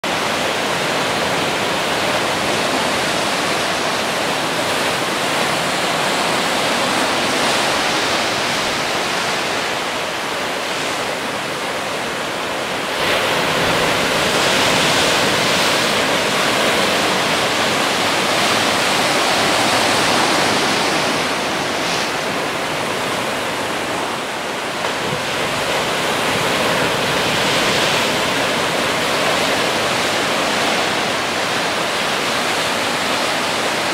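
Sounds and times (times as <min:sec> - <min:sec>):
surf breaking on rocks: 0:00.0 - 0:33.9.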